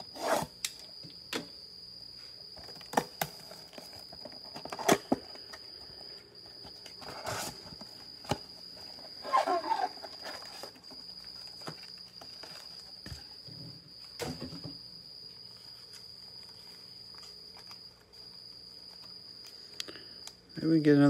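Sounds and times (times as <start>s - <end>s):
cricket trilling: 0.0s - 21.0s.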